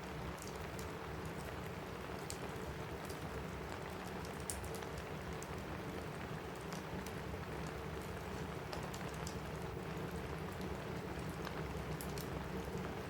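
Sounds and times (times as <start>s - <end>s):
fireplace fire crackling: 0.0s - 13.0s
rain on a roof: 0.0s - 13.0s.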